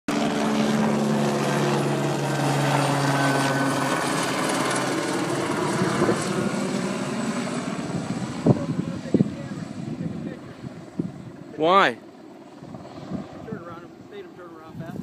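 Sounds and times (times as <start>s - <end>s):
helicopter flying overhead: 0.1s - 15.0s.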